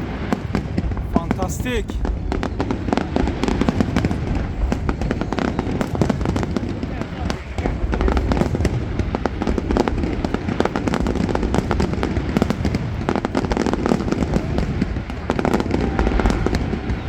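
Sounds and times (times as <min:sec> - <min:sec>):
fireworks crackling: 0:00.0 - 0:17.0
low rumble of shell explosions: 0:00.0 - 0:17.0.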